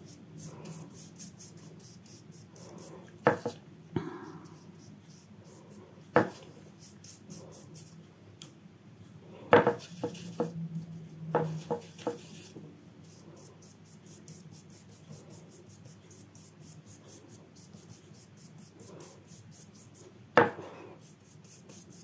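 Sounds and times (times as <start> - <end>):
brush scratching across paper: 0.0 - 3.6, 4.5 - 8.0, 9.8 - 20.1, 21.0 - 22.0.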